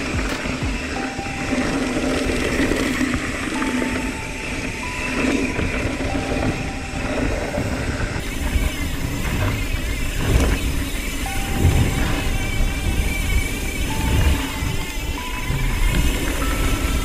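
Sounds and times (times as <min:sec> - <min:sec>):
bike rattling: 0:00.0 - 0:17.0
wind buffeting microphone: 0:00.0 - 0:17.0.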